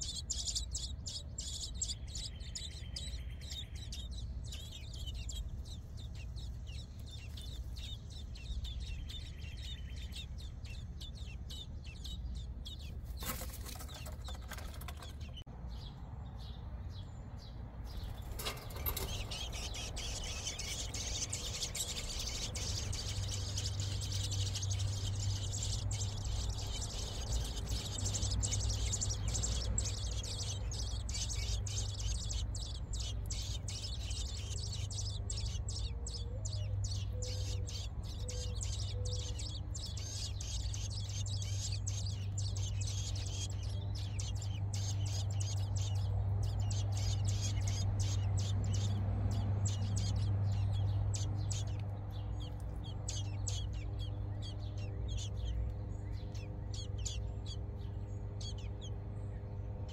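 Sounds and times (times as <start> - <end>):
bird nestlings cheeping: 0.0 - 59.9
steady low hum: 0.0 - 59.9.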